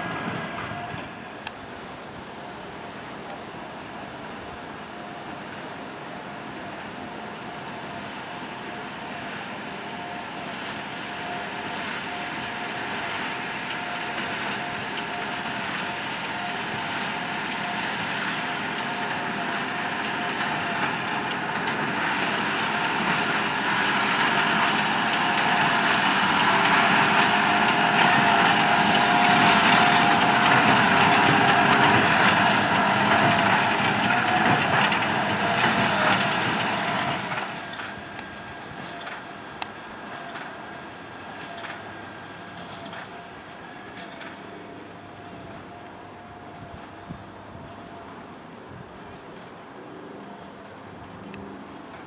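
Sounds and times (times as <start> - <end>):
tractor diesel engine under load: 0.0 - 52.0.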